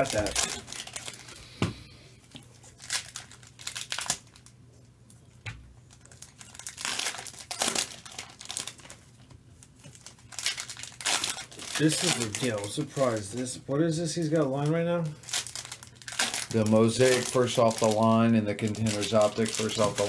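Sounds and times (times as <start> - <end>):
foil wrappers crinkling and tearing: 0.0 - 1.4, 2.2 - 4.6, 5.8 - 20.0.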